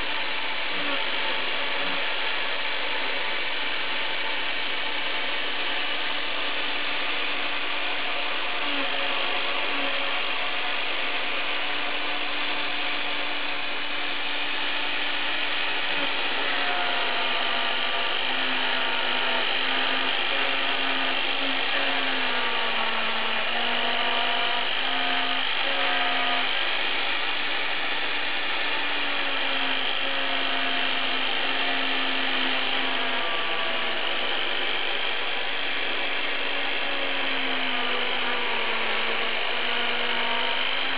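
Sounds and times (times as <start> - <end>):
drive motors changing pitch: 0.0 - 40.9
router spindle whirring: 0.0 - 40.9.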